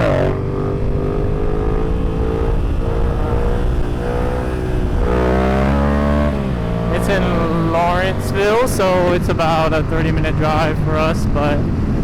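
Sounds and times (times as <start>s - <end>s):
motorcycle engine accelerating: 0.0s - 12.0s
wind noise: 0.0s - 12.0s.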